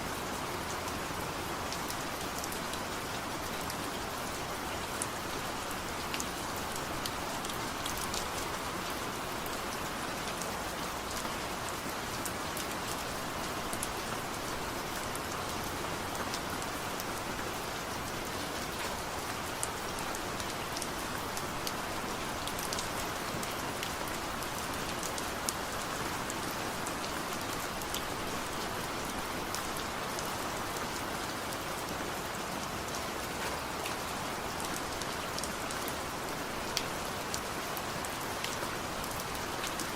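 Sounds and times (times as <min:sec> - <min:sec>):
gentle rain falling: 0:00.0 - 0:39.9
rain drops ticking: 0:00.4 - 0:39.9.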